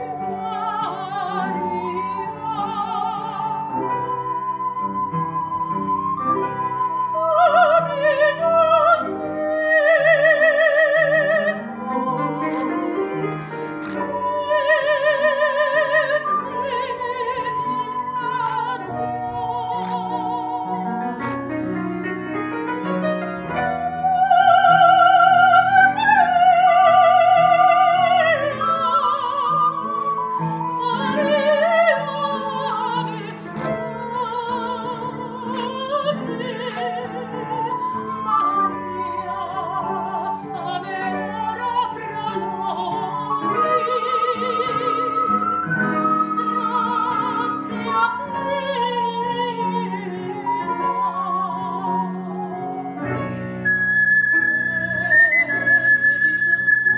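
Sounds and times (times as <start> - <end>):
woman singing operatic style: 0.0 - 21.4, 22.7 - 56.9
ocarina: 0.0 - 56.9.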